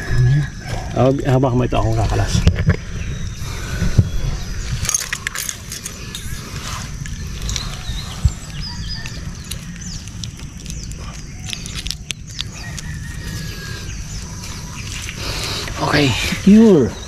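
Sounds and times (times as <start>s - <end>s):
low wind rumble on microphone: 0.0s - 17.0s.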